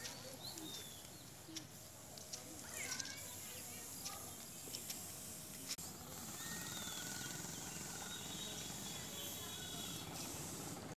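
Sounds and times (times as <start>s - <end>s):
steady hiss: 0.0s - 10.9s.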